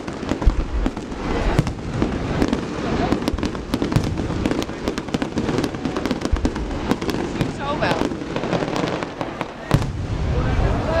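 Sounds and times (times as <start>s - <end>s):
fireworks cracks and bangs: 0.0s - 11.0s
low fireworks booms: 0.0s - 11.0s.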